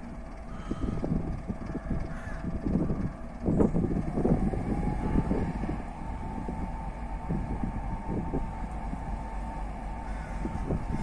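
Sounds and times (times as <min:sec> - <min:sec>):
diesel locomotive engine revving: 0:00.0 - 0:11.0.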